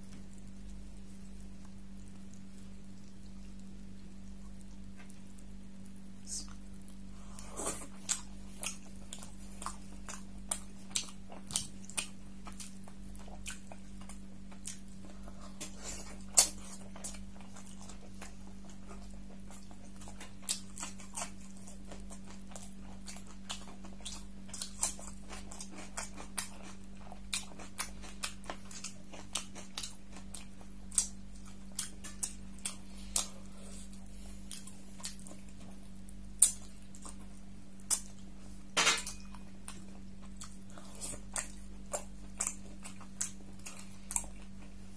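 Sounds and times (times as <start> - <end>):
chewing and mouth smacks: 0.0 - 44.9
steady low hum: 0.0 - 44.9.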